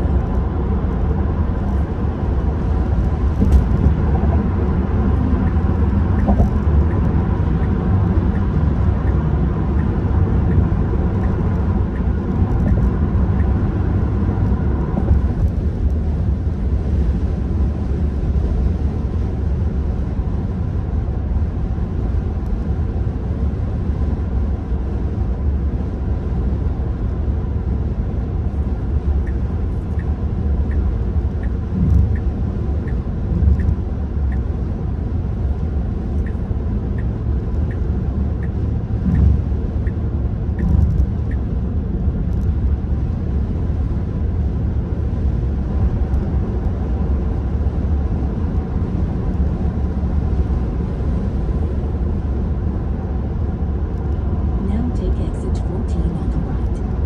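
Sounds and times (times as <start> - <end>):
tyre and road noise rumble: 0.0 - 57.0.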